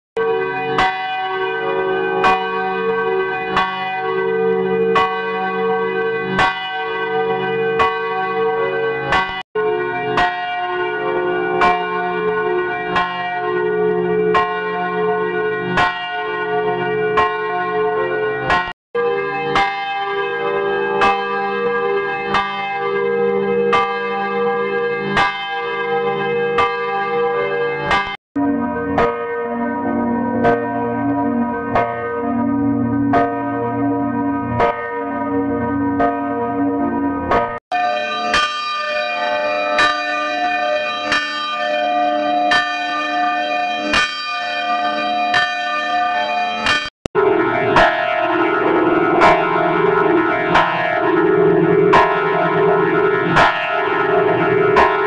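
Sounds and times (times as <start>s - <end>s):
church bell ringing: 0.2s - 55.0s.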